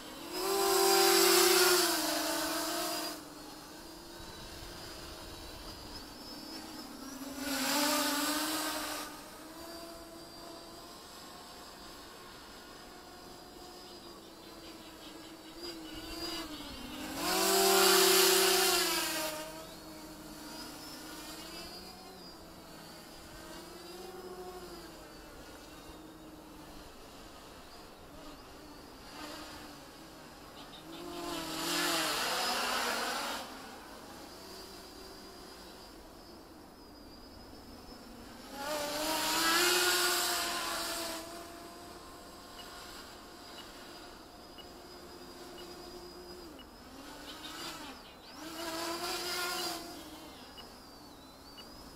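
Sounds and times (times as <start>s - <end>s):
quadcopter propellers buzzing: 0.0s - 51.9s.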